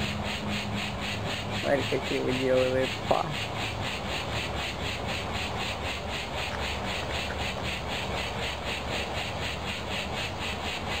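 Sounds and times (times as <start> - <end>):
low steady rumble: 0.0 - 11.0
pulsing insect chorus: 0.0 - 11.0.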